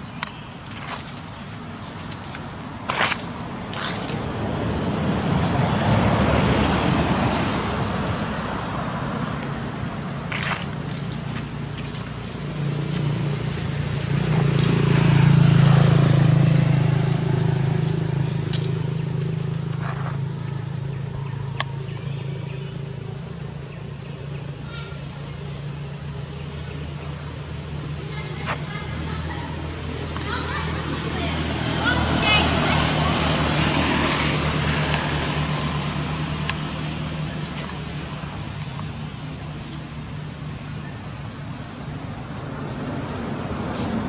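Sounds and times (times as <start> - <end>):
vehicle engine passing by: 0.2 - 44.0.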